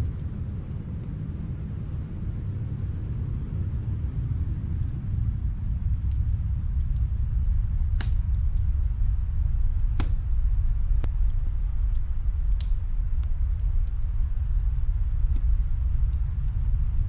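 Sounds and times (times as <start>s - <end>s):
steady low rumble: 0.0s - 17.0s
wood fire crackling: 0.0s - 17.0s.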